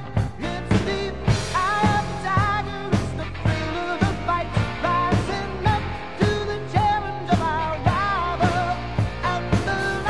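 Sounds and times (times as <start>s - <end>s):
pop-rock song with singing: 0.0s - 10.0s.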